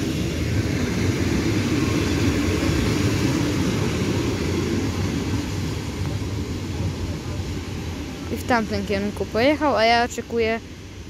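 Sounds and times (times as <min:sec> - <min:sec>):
diesel locomotive engine: 0:00.0 - 0:11.0
train wheels rumbling: 0:00.0 - 0:11.0.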